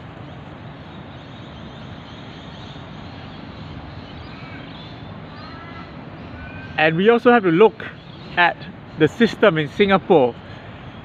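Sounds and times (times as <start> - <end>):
outdoor background noise: 0.0 - 11.0
bird chirping: 0.2 - 11.0.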